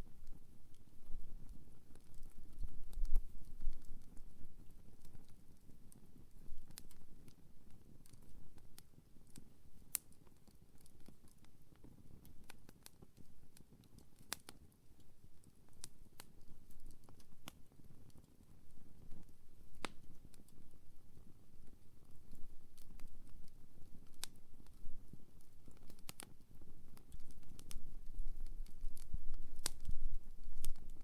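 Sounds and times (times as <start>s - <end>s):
low rumble of burning fire: 0.0s - 31.0s
campfire crackling and popping: 0.1s - 31.0s.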